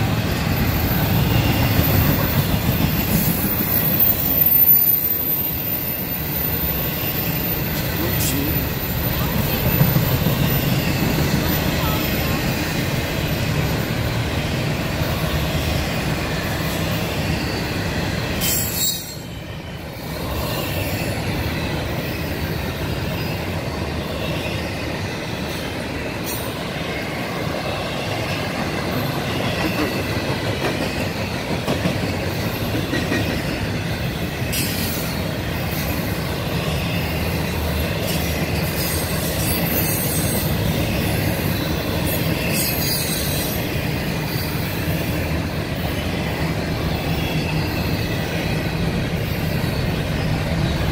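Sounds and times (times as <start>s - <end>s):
train wheels clattering on rail: 0.0s - 50.9s.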